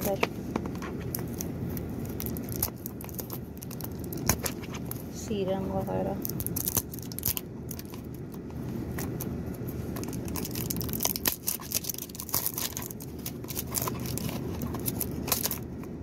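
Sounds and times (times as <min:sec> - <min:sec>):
cellophane crinkling and tearing: 0:00.0 - 0:05.1, 0:06.2 - 0:16.0
car engine and air conditioner hum: 0:00.0 - 0:16.0.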